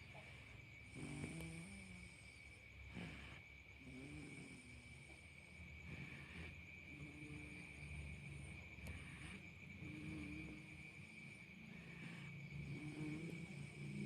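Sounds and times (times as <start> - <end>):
baby snoring: 0.8 - 14.0.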